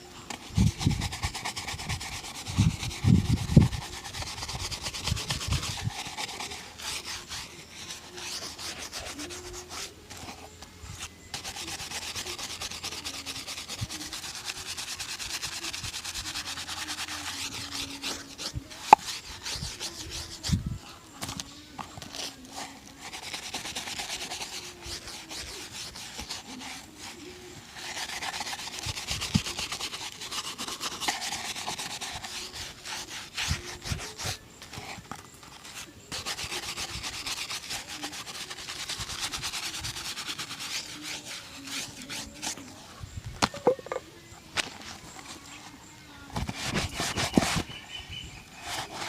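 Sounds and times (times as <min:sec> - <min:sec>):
scrubbing shoe leather: 0:00.3 - 0:42.8, 0:44.6 - 0:49.0.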